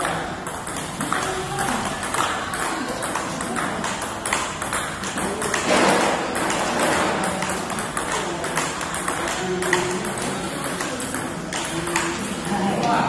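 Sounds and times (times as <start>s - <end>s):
ping pong ball clicking off paddles: 0.0s - 12.6s.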